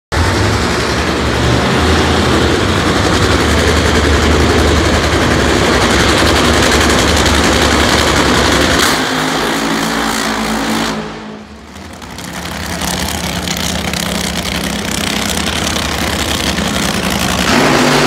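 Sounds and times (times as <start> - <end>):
drag racing engines rumbling: 0.1 - 18.0.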